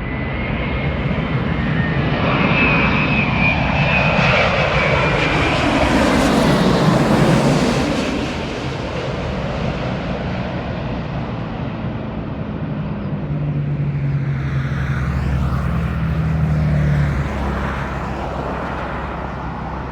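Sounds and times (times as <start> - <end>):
deep aircraft rumble: 0.0 - 19.9
jet airliner engine drone: 0.0 - 19.9.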